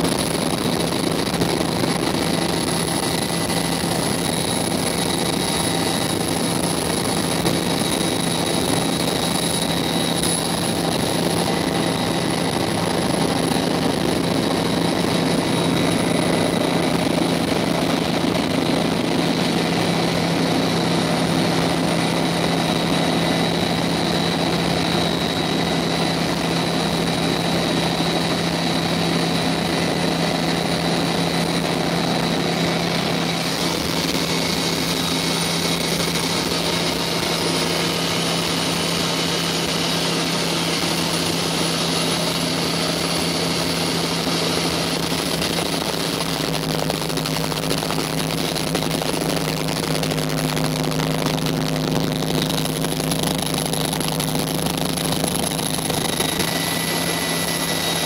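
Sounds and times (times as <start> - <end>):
high turbine whine: 0.0 - 58.0
rotor and gearbox drone: 0.0 - 58.0.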